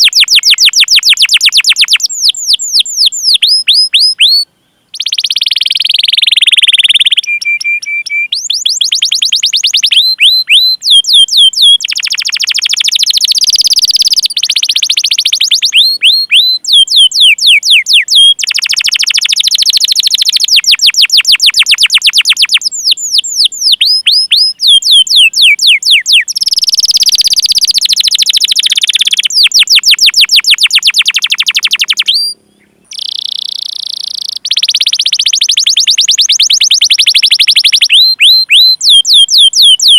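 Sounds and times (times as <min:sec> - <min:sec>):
canary singing chirps and trills: 0:00.0 - 0:39.9.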